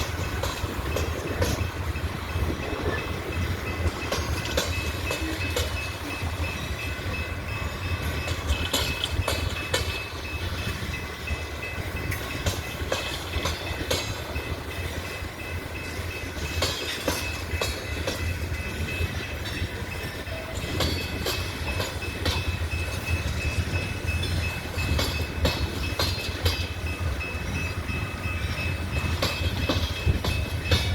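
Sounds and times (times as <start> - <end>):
train wheels rumbling: 0.0 - 30.9
wheels clanking over rail joints: 0.0 - 30.9.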